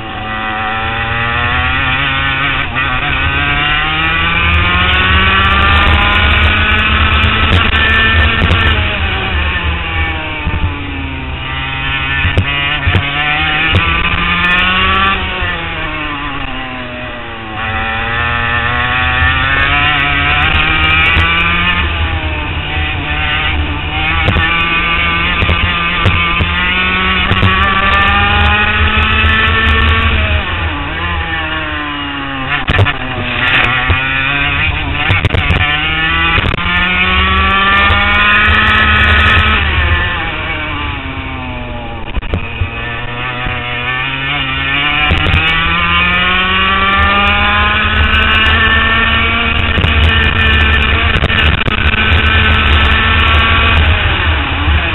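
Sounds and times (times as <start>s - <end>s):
kart engine revving: 0.0s - 54.9s.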